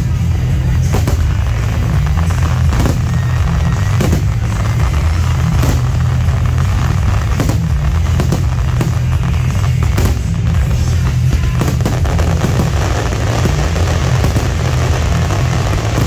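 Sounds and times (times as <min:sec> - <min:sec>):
firework shell bursts: 0:00.0 - 0:16.0
low rumble: 0:00.0 - 0:16.0
music playing: 0:00.0 - 0:16.0.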